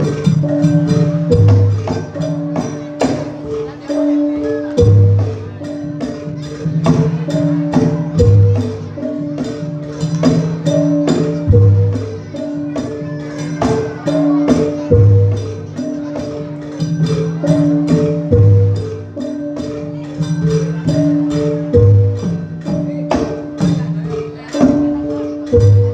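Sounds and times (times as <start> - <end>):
ringing metal-keyed instruments: 0.0 - 25.9.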